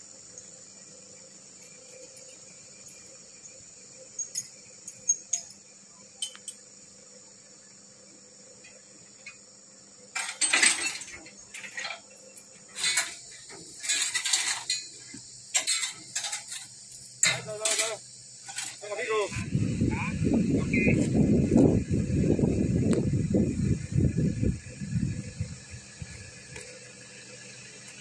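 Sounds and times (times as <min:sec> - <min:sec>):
forest insects droning: 0:00.0 - 0:28.0.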